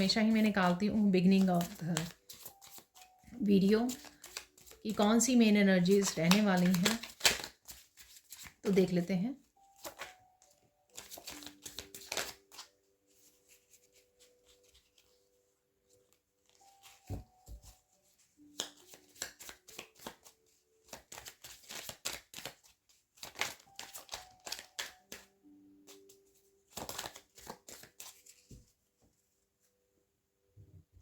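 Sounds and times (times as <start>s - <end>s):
cards being shuffled: 0.0s - 9.0s, 9.6s - 28.7s.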